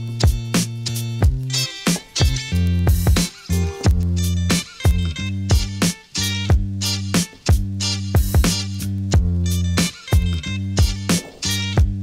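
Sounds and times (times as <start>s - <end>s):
instrumental music with drum beat: 0.0s - 12.0s.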